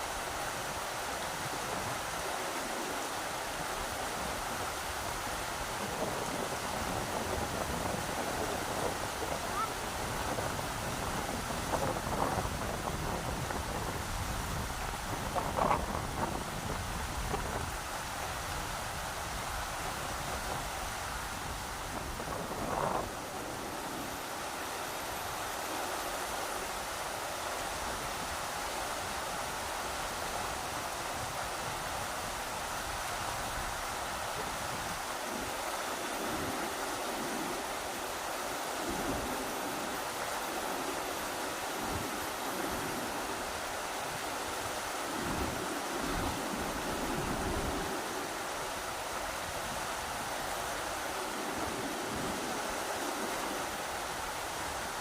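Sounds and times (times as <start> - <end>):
rushing river water: 0.0 - 55.0
wind gusting in low rumbles: 0.0 - 55.0.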